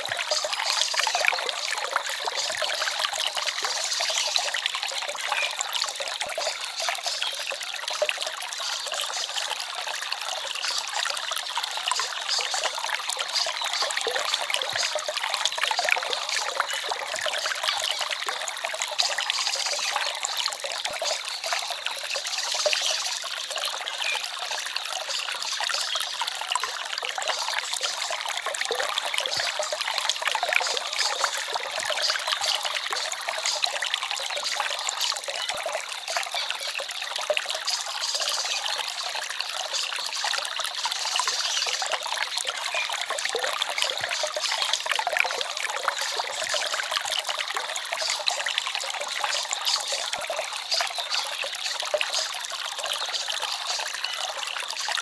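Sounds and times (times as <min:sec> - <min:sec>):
forest stream trickling: 0:00.0 - 0:55.0.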